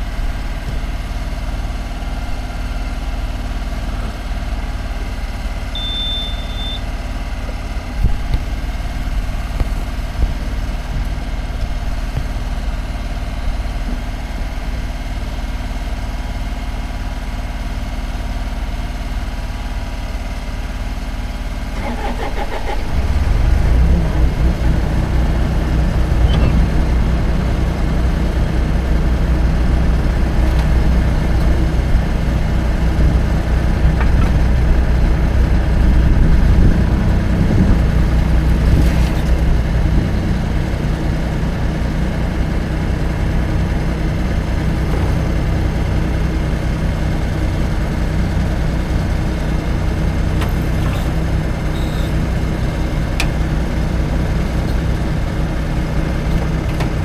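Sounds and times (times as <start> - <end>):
engine running under load: 0.0 - 57.0.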